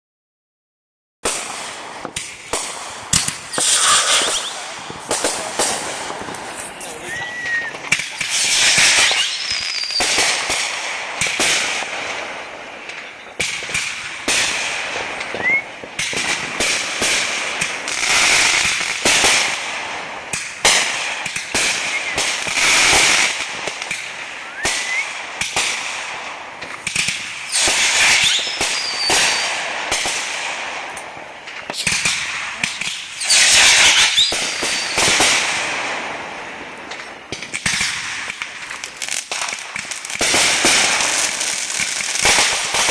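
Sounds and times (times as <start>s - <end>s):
fireworks rising whistles: 1.2s - 19.6s, 20.6s - 25.8s, 26.6s - 42.9s
fireworks bangs and crackling: 1.2s - 42.9s.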